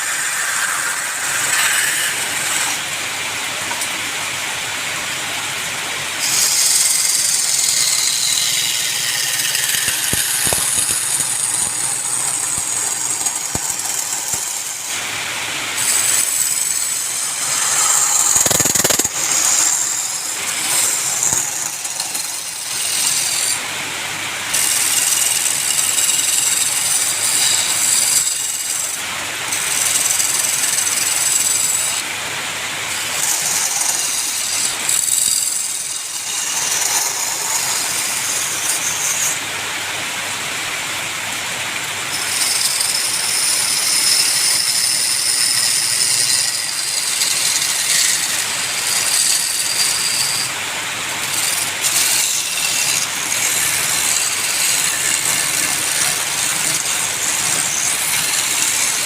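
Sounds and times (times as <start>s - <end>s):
lathe gouge scraping wood: 0.0s - 3.0s, 6.2s - 15.0s, 15.7s - 23.6s, 24.5s - 32.0s, 32.9s - 39.4s, 42.1s - 50.6s, 51.2s - 59.0s.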